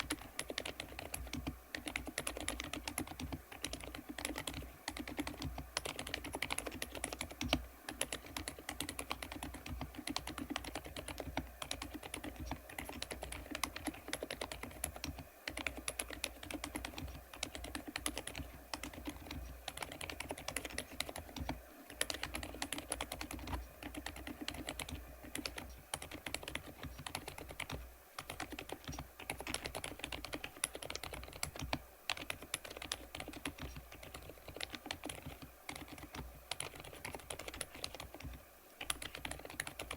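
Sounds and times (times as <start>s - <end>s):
quiet keyboard typing: 0.0s - 39.9s.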